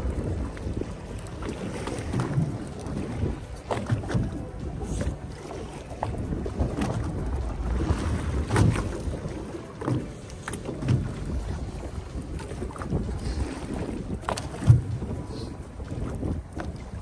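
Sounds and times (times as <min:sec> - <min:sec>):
low boat rumble: 0:00.0 - 0:17.0
wind on microphone: 0:00.0 - 0:17.0.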